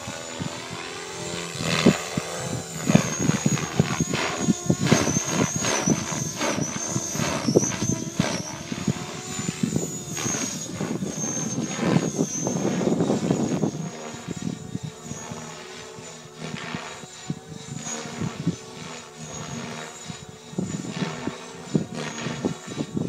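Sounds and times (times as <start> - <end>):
electric rc helicopter whine: 0.0 - 23.0
wind buffeting microphone: 0.0 - 23.0.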